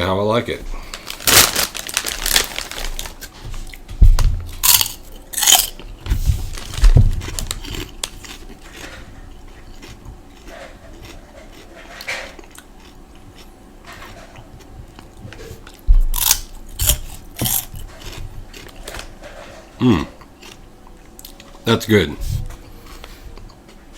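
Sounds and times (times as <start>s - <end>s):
person chewing crunchy food: 0.8s - 23.9s.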